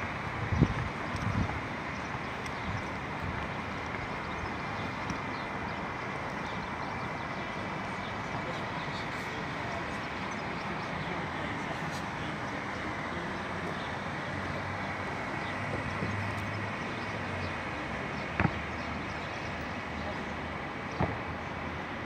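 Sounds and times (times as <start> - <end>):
steady rushing background noise: 0.0 - 22.0.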